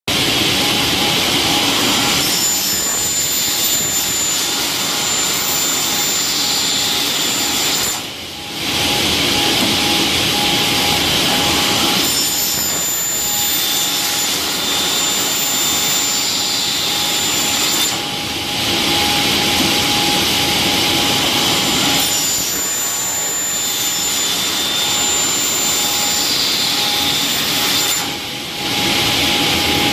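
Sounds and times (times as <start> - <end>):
circular saw cutting metal: 0.1 - 29.9.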